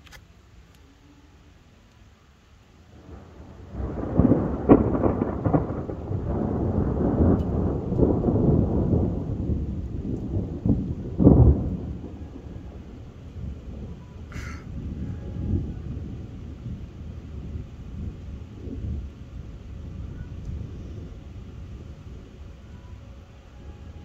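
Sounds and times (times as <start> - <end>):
thunder rolling and cracking: 2.9 - 22.5.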